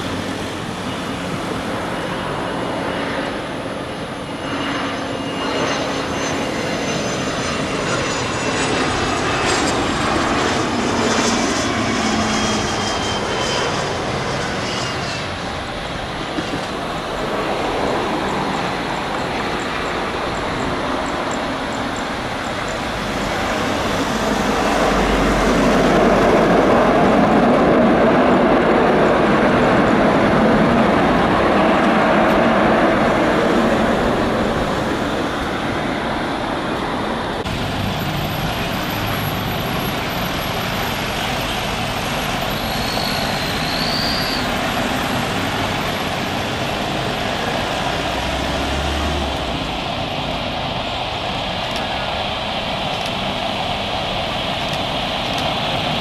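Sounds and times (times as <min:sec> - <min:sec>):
jet engines at takeoff power: 0:00.0 - 0:56.0
jet noise on approach: 0:00.0 - 0:56.0.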